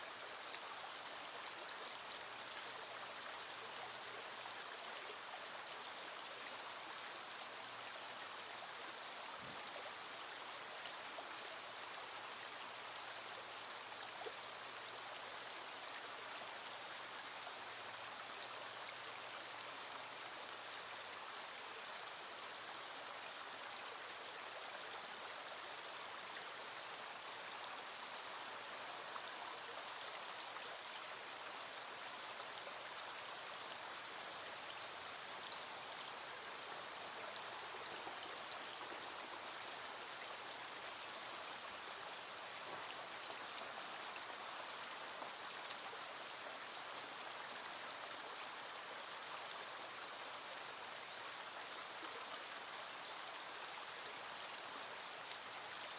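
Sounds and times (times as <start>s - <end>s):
small stream running: 0.0s - 55.9s.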